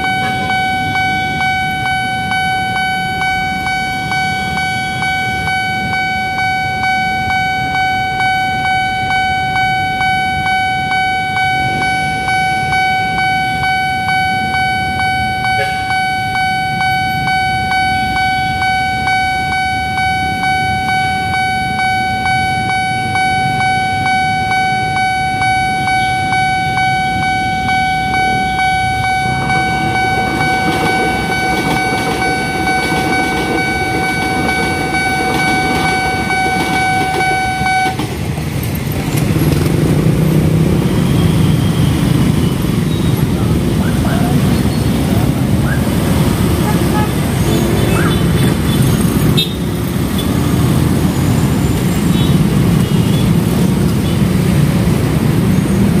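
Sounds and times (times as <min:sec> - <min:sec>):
electric train passing: 0:00.0 - 0:56.0
level-crossing alarm bell ringing: 0:00.0 - 0:56.0.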